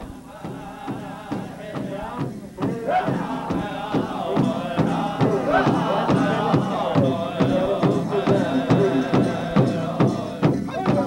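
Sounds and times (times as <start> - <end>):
drum group singing: 0.0 - 11.0
steady drumbeat: 0.0 - 11.0.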